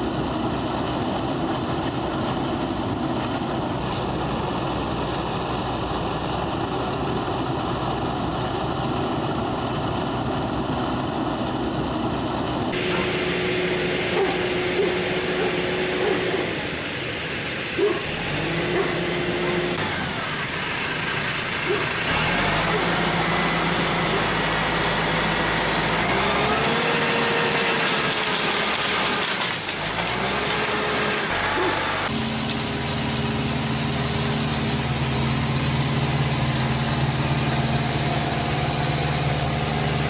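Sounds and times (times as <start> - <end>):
motor vehicle engine running: 0.0 - 40.0.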